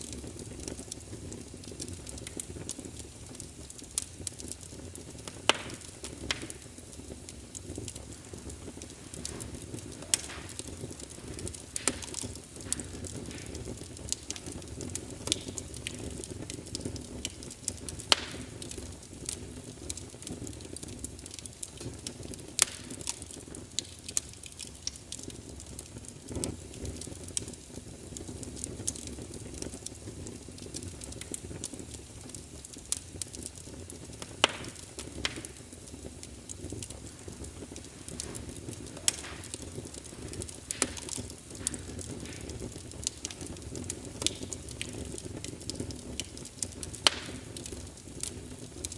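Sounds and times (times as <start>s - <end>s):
fire crackling and popping: 0.0s - 48.9s
fire rumbling in fireplace: 0.0s - 48.9s.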